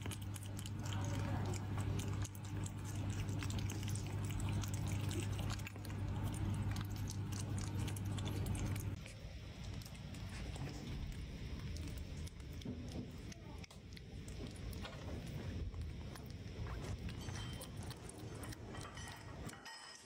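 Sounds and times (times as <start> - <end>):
steady low hum: 0.0 - 19.6
puppy chewing noodles: 0.0 - 19.7.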